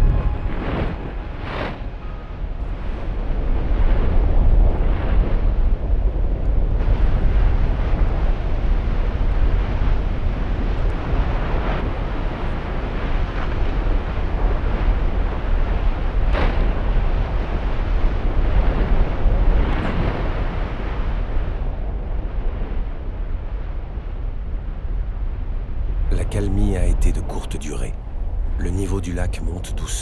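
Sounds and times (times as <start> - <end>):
lava lake low rumble: 0.0 - 30.0.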